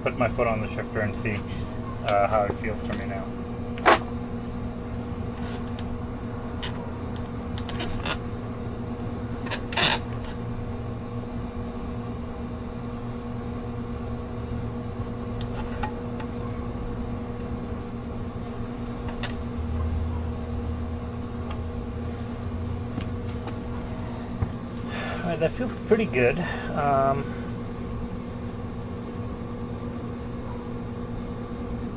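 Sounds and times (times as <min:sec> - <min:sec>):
mechanical hum: 0:00.0 - 0:31.9.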